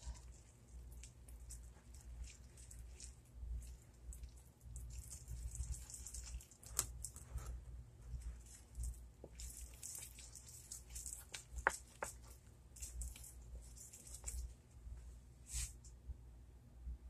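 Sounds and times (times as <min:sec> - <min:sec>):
spoon stirring wet dough: 0:00.0 - 0:14.6.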